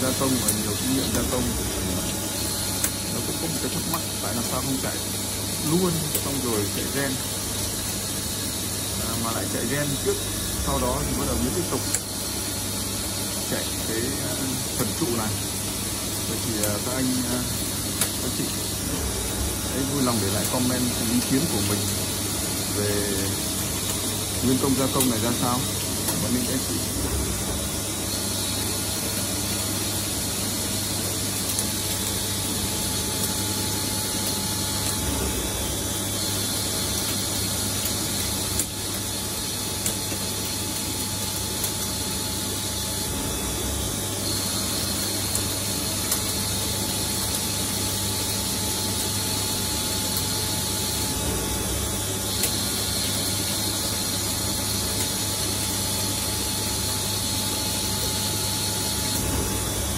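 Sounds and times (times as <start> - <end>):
lathe machine humming: 0.0 - 59.9.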